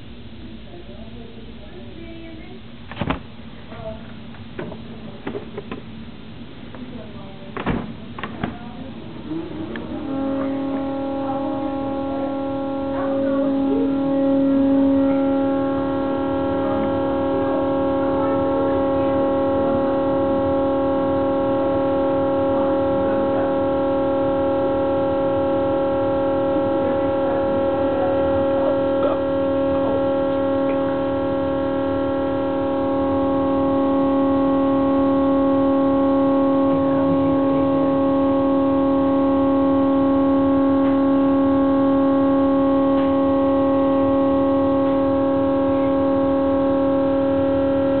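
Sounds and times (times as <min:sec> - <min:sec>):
refrigerator droning tone: 0:00.0 - 0:48.0.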